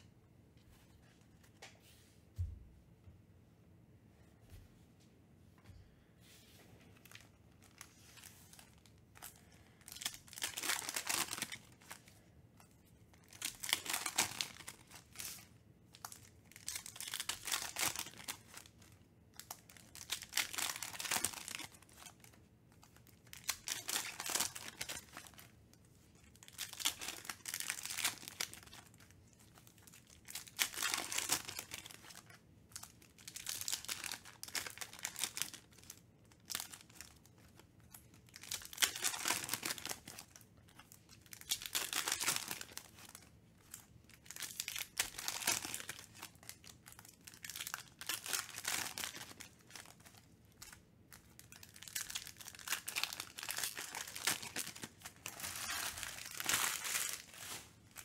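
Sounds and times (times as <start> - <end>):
foil wrappers crinkling and tearing: 7.0 - 58.0.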